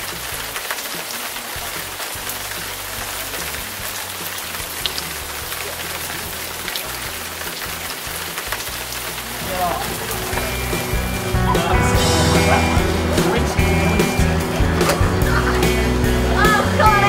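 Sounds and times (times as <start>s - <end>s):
rain falling on wet ground: 0.0s - 17.0s
background music with bass line: 1.6s - 17.0s.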